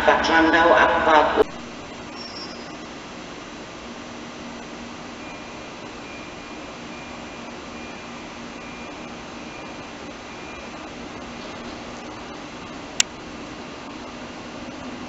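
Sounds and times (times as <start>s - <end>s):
electric train running: 0.0s - 15.0s
high whine: 0.0s - 15.0s.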